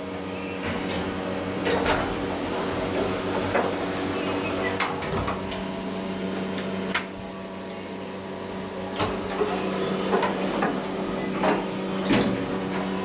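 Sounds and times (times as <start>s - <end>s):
elevator doors shutting: 0.0s - 13.0s
elevator hum: 0.0s - 13.0s.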